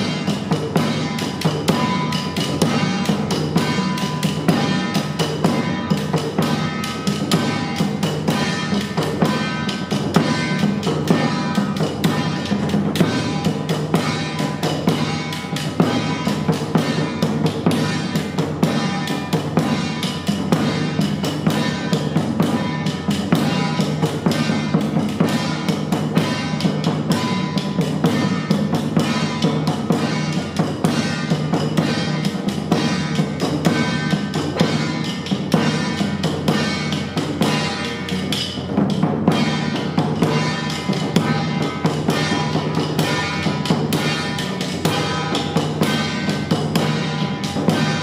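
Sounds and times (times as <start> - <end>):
drums and percussion: 0.0 - 48.0.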